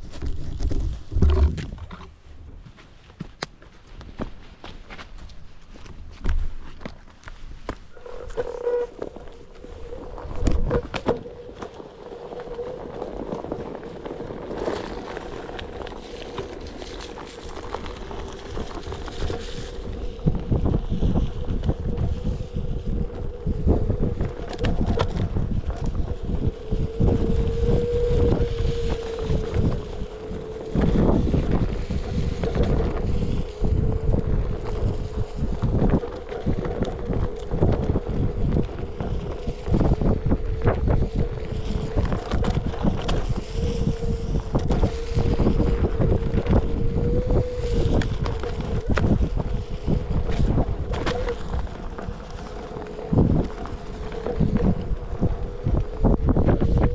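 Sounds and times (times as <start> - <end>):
wind buffeting microphone: 0.0 - 2.8, 4.1 - 56.9
electric motor whine: 7.9 - 56.9.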